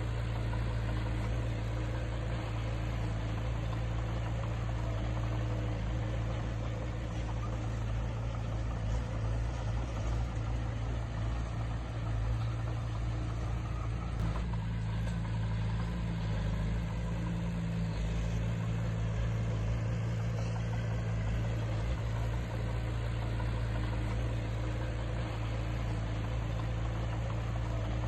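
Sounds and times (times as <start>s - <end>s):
heavy diesel engine humming: 0.0s - 28.0s.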